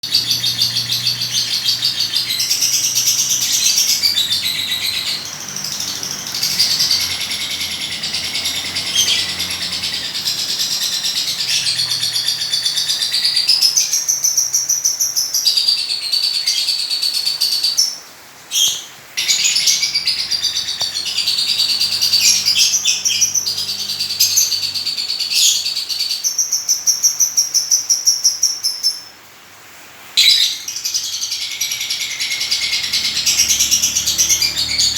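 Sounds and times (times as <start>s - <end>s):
lovebird chirping and trilling: 0.0s - 17.9s, 18.5s - 29.1s, 30.2s - 34.9s.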